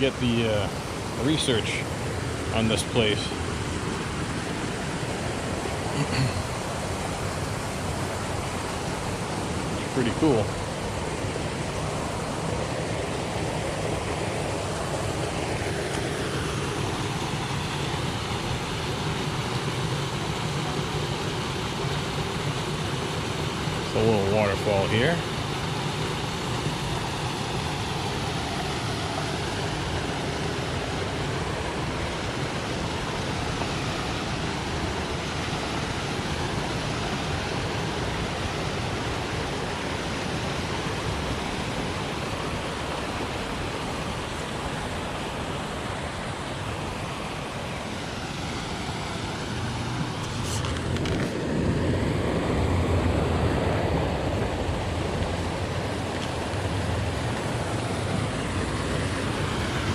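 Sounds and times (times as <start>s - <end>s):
waterfall pouring and splashing: 0.0s - 59.9s.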